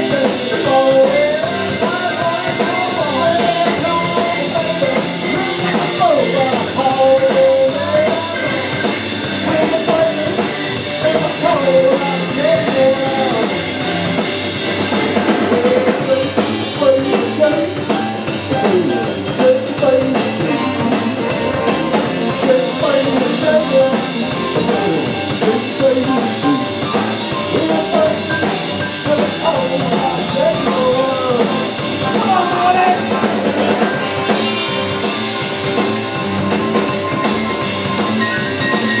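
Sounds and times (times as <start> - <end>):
drum kit beat: 0.0 - 39.0
electric guitar: 0.0 - 39.0.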